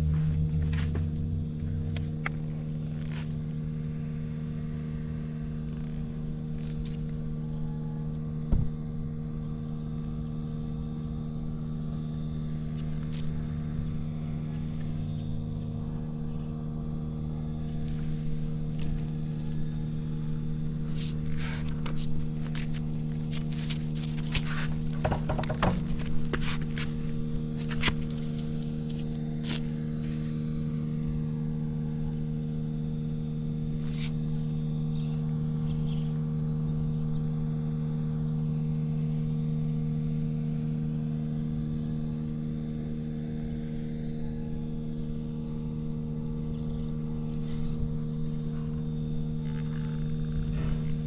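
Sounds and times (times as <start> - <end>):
motorcycle engine idling: 0.0 - 43.6.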